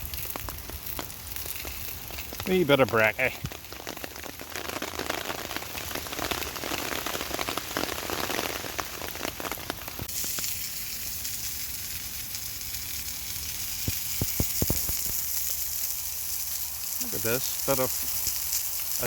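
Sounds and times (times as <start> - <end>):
food sizzling and popping in pan: 0.0 - 19.0.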